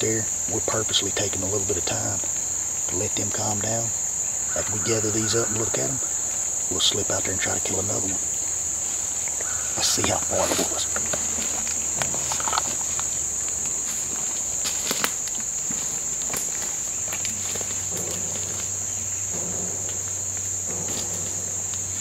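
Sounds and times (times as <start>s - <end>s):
high-pitched insect chorus: 0.0s - 22.0s
footsteps crunching through dry leaves: 4.2s - 22.0s.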